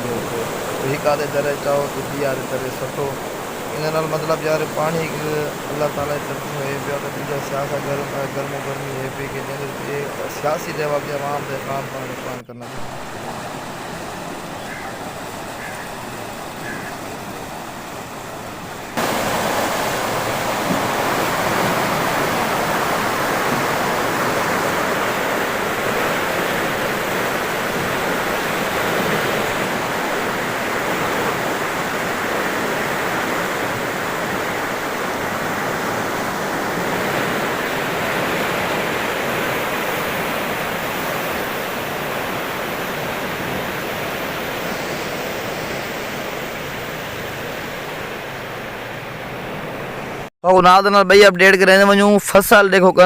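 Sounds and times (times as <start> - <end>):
floodwater rushing: 0.0 - 50.3.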